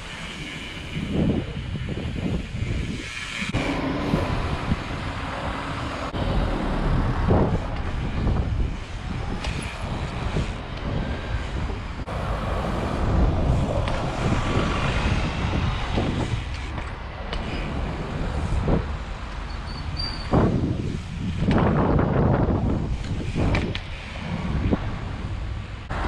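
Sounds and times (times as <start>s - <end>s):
wind buffeting: 0.0s - 26.0s.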